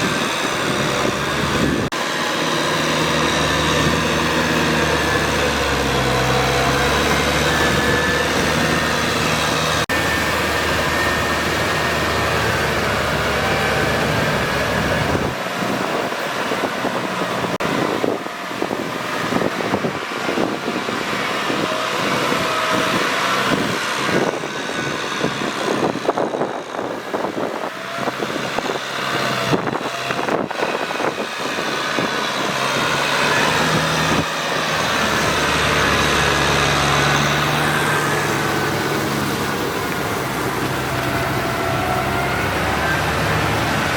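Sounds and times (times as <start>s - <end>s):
rough knocking engine noise: 0.0s - 43.9s
tractor engine droning: 0.0s - 43.9s.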